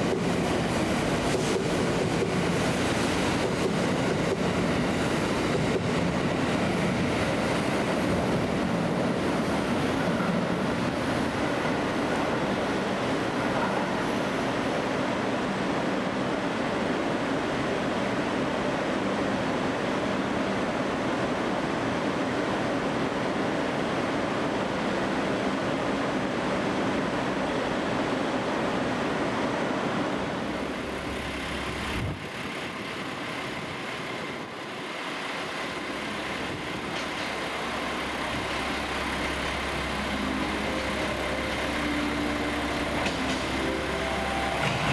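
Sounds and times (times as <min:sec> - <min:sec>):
train rumbling on rails: 0:00.0 - 0:44.9.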